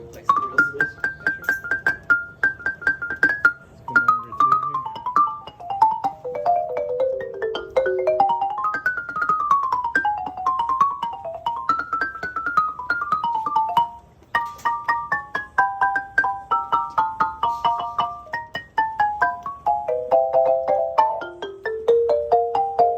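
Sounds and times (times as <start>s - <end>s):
marimba played with mallets: 0.0s - 22.9s.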